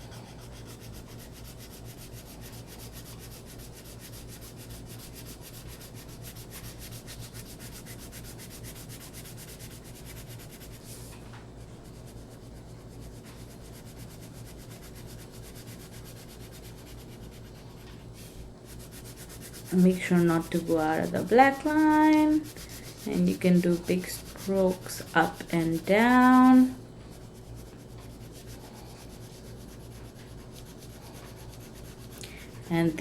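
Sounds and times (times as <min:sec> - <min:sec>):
crayon scratching on paper: 0:00.0 - 0:10.9, 0:11.8 - 0:17.6, 0:18.7 - 0:33.0.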